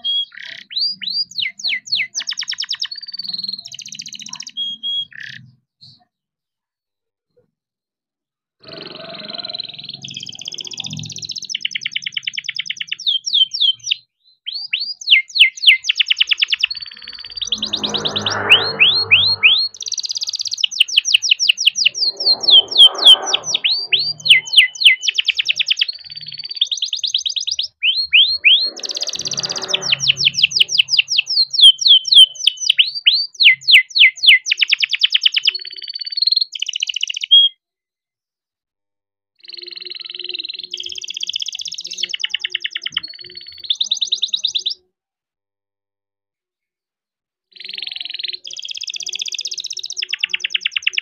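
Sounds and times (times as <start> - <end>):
canary singing trills: 0.0 - 6.1, 8.6 - 37.6, 39.4 - 44.9, 47.5 - 51.0.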